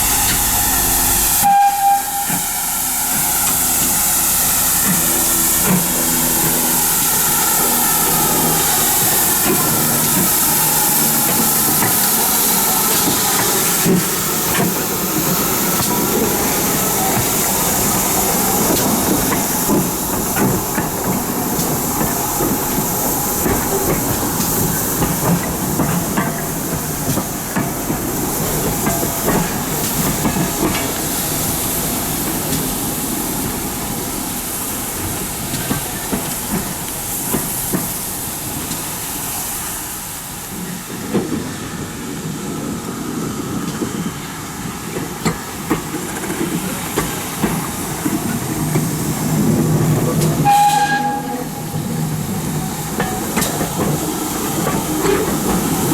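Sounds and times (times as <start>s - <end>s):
steam locomotive hissing: 0.0s - 55.9s.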